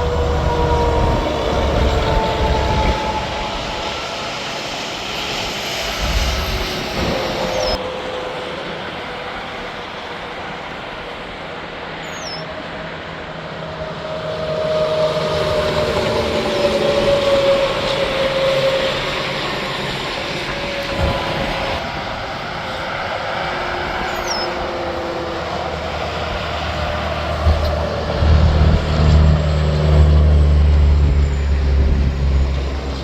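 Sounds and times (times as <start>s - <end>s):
heavy truck passing: 0.0s - 8.6s, 13.6s - 33.0s
highway traffic: 0.0s - 33.0s.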